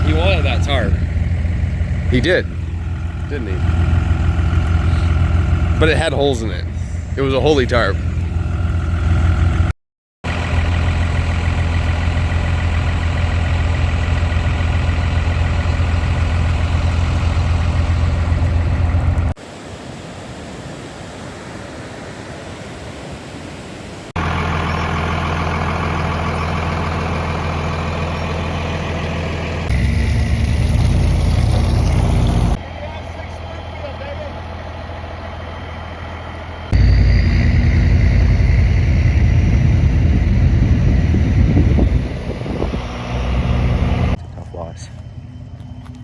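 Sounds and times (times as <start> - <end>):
diesel truck engine idling: 0.0 - 9.7, 10.3 - 19.4, 24.2 - 46.0.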